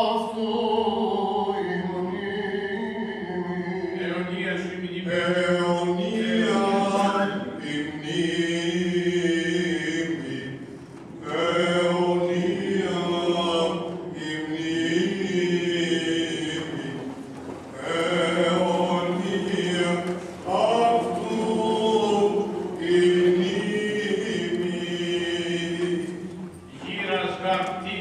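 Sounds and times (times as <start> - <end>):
liturgical chant in long held notes: 0.0 - 28.0.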